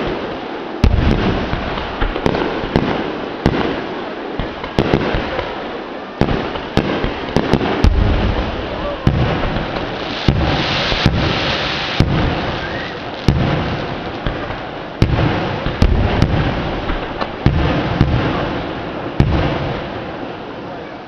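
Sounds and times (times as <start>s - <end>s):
fireworks bursting with bangs: 0.0s - 20.6s
crackling hiss: 0.0s - 21.0s.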